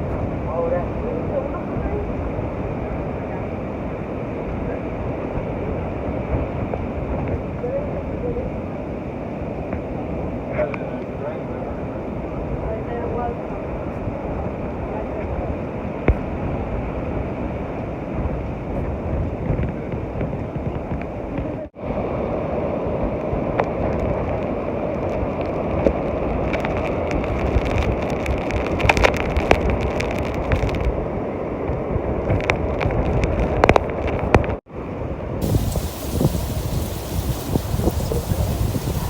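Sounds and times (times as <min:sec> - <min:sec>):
wind buffeting microphone: 0:00.0 - 0:10.5, 0:11.3 - 0:39.0.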